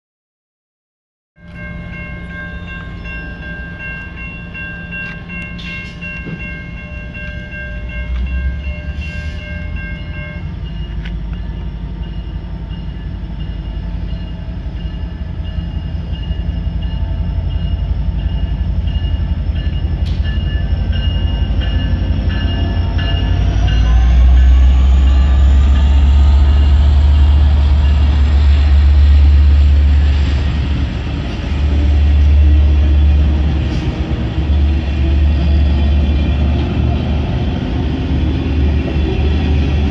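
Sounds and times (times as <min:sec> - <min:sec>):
railroad crossing bell ringing: 0:01.4 - 0:38.0
diesel train passing: 0:01.4 - 0:39.9.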